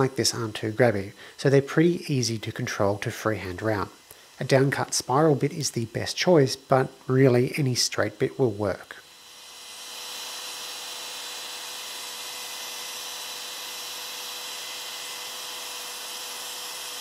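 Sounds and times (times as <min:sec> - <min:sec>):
wood router cutting: 0:00.0 - 0:17.0.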